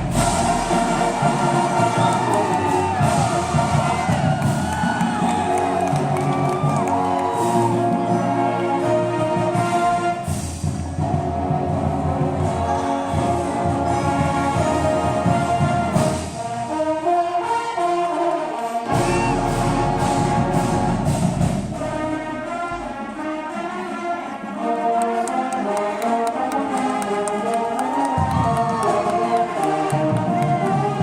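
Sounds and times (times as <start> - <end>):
brass chords: 0.0 - 31.0
percussion: 0.0 - 31.0
school band playing: 0.0 - 31.0.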